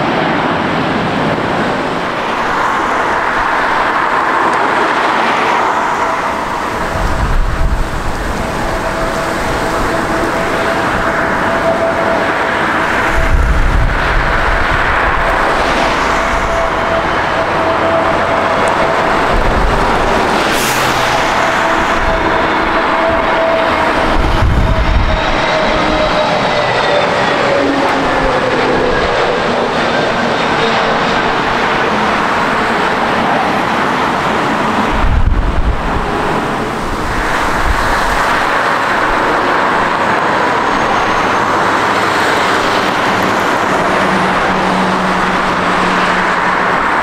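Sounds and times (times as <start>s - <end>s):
jet engines roaring: 0.0s - 47.0s
steady engine whine: 0.0s - 47.0s.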